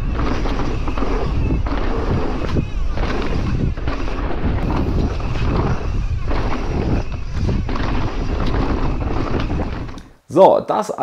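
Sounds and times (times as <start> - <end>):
bike rattling and knocking: 0.0 - 10.0
wind rumble on microphone: 0.0 - 10.1
bike tyre noise: 0.0 - 10.2.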